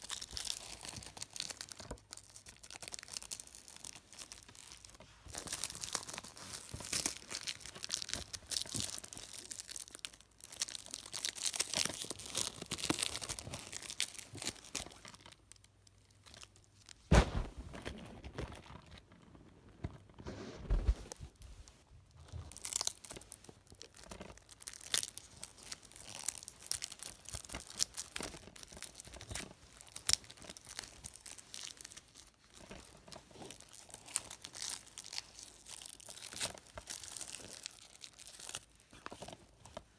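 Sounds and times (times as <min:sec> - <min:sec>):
plastic packaging tearing and crinkling: 0:00.0 - 0:19.1, 0:22.2 - 0:39.6.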